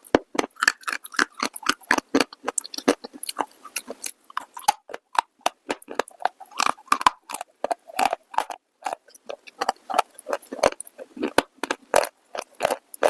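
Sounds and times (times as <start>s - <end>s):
crunching brittle clay: 0.1s - 13.0s.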